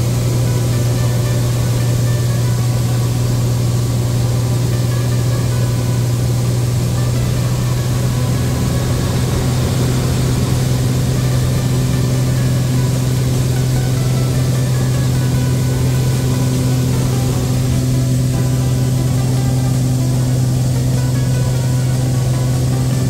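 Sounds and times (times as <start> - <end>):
airplane engine and propeller droning: 0.0 - 23.0
higher tone: 0.0 - 23.0.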